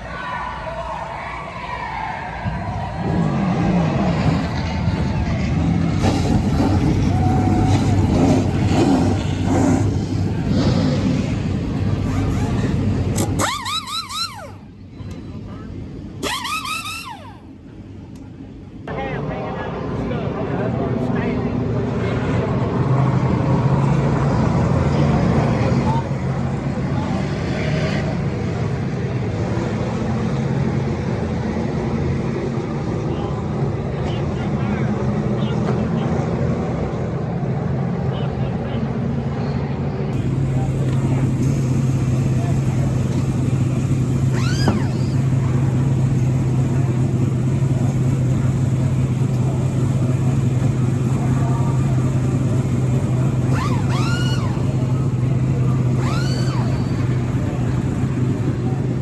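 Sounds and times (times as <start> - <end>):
race truck engines droning: 0.0 - 59.0.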